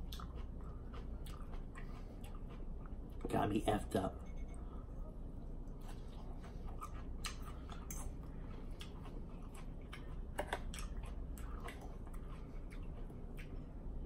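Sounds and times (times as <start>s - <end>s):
chewing with wet mouth smacks: 0.0s - 3.3s, 5.6s - 13.8s.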